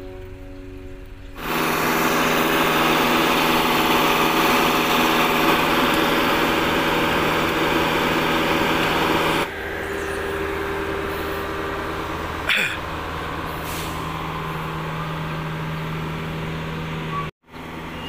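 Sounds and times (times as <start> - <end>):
diesel excavator engine running: 0.0 - 18.0.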